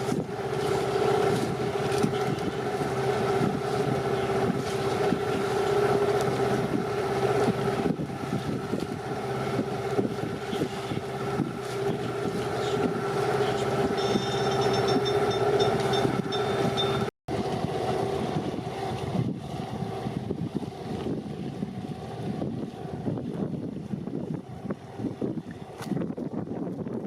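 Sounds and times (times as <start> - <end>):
boat motor running: 0.0 - 27.0
wind on microphone: 0.0 - 27.0.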